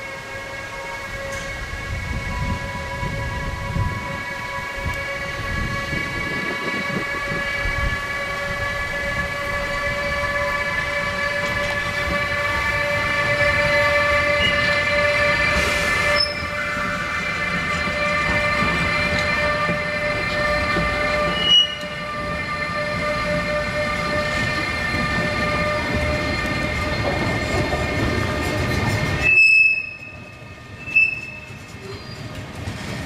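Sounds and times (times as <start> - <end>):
electric locomotive whine: 0.0 - 33.0
rush of passing train: 0.0 - 33.0
train wheels rumbling: 0.0 - 33.0.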